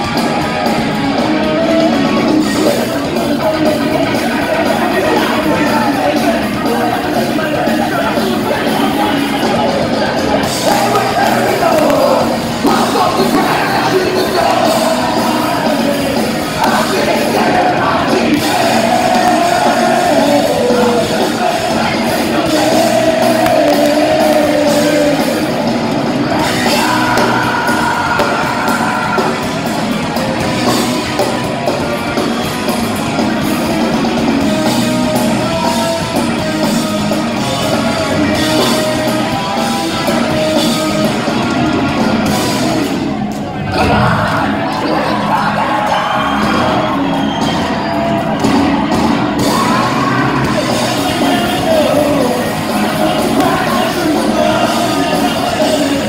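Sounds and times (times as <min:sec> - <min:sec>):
live punk band playing: 0:00.0 - 0:56.0
voices singing and yelling: 0:00.0 - 0:56.0.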